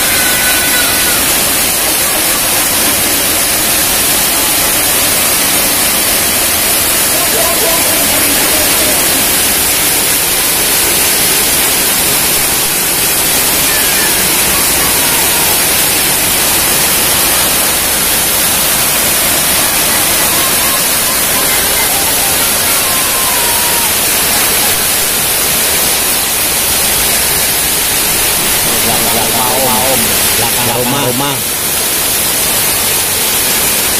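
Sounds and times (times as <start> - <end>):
heavy rain on roofs and concrete: 0.0 - 33.9.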